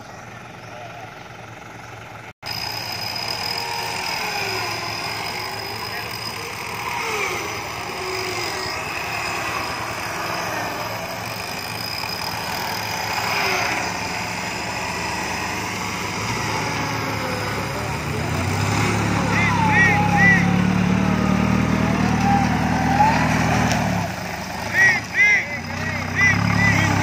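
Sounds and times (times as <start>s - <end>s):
vehicle engine running at low revs: 0.0s - 27.0s
people talking: 3.5s - 15.3s, 16.2s - 27.0s.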